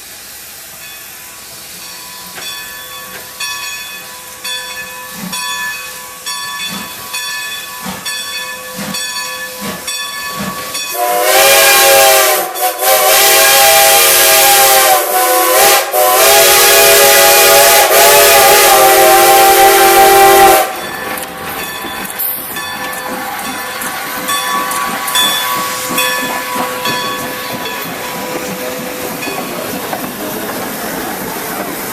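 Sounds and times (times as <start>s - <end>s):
steam locomotive hissing and chuffing: 0.0s - 31.9s
steam chime whistle blasts: 0.8s - 29.5s.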